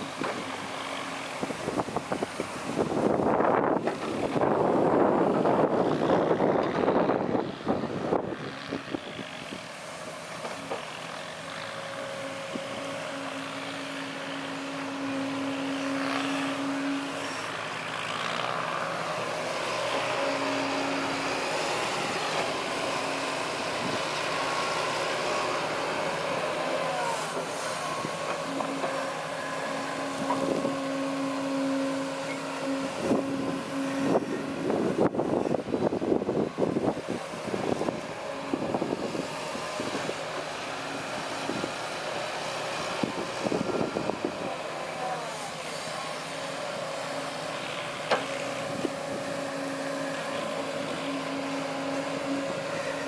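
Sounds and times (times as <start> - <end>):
heavy machine diesel engines: 0.0 - 53.0.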